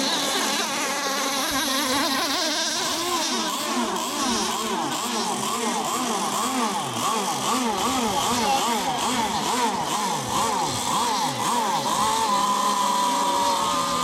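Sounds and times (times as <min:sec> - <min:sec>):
small two-stroke boat engine: 0:00.0 - 0:14.0.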